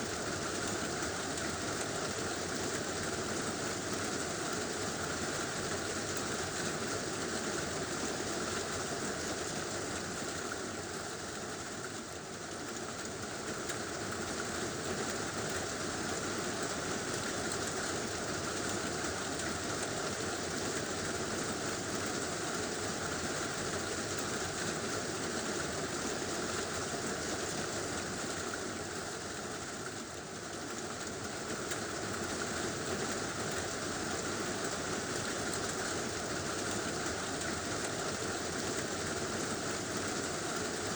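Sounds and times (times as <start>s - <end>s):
heavy rain on a tin roof: 0.0s - 40.9s.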